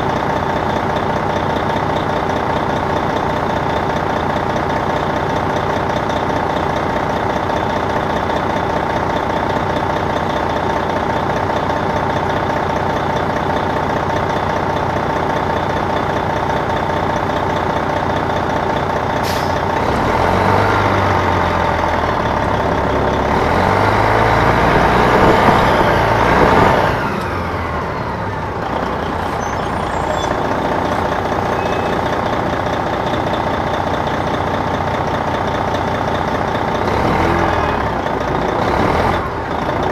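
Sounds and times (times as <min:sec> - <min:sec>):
diesel bus engine idling and revving: 0:00.0 - 0:39.9.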